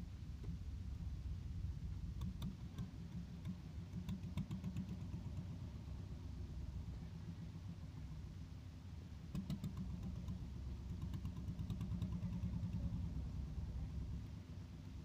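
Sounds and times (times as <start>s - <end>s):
boat diesel engine humming: 0.0s - 15.0s.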